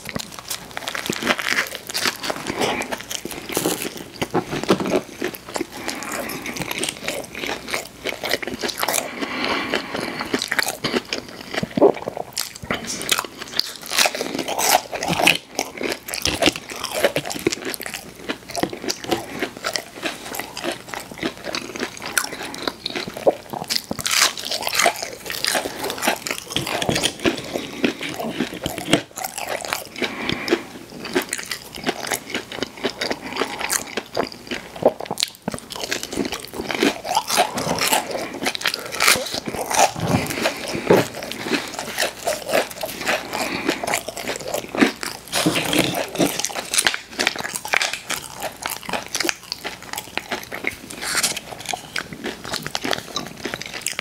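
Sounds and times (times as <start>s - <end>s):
crunchy chewing: 0.0s - 54.0s
wet chewing noises: 0.0s - 54.0s.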